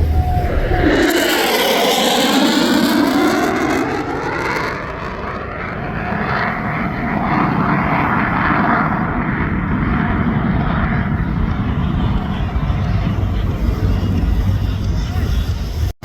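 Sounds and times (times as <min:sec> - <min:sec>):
jet engine noise in flight: 0:00.0 - 0:16.0.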